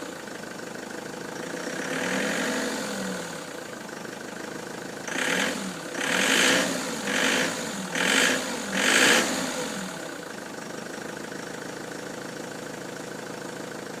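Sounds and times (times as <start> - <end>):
van engine revving and idling: 0.0 - 14.0.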